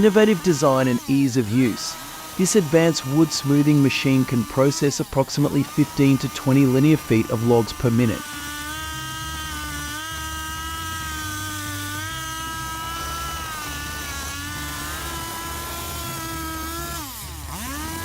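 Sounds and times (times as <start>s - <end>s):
wood-cutting machine motor whine: 0.0s - 18.0s.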